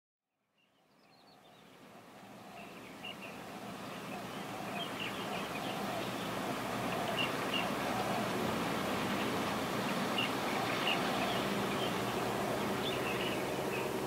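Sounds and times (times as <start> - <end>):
small birds chirping: 0.6 - 14.0
traffic hiss: 1.6 - 14.0.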